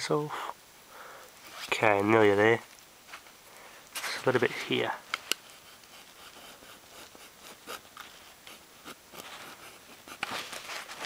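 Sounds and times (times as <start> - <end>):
handling rustles: 1.4 - 2.0, 2.6 - 11.0.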